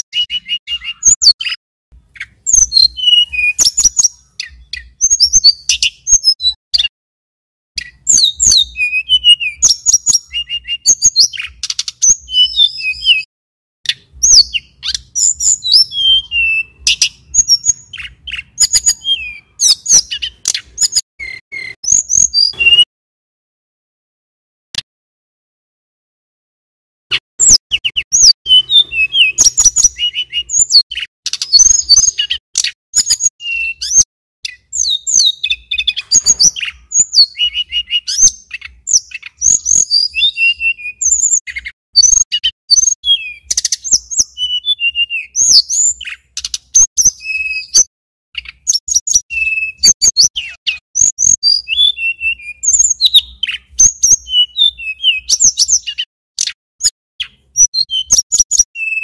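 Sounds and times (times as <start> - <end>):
bird singing whistled notes: 0.0 - 6.9, 7.8 - 13.3, 13.9 - 22.9, 27.4 - 59.0.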